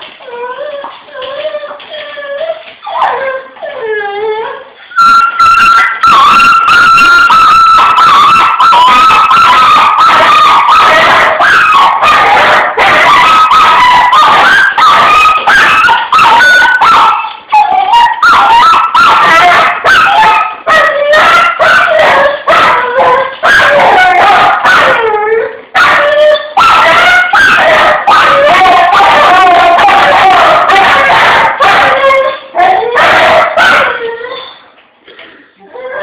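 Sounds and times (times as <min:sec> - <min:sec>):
dog whining and howling: 0:00.2 - 0:34.6, 0:35.6 - 0:36.0.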